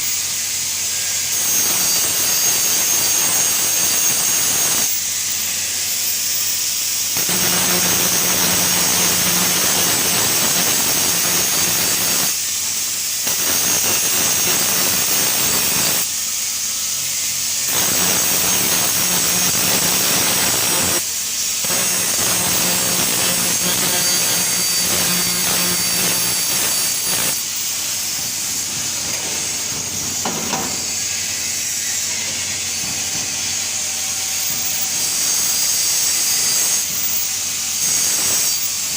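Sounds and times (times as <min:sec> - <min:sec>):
welding arc hissing: 0:00.0 - 0:38.9.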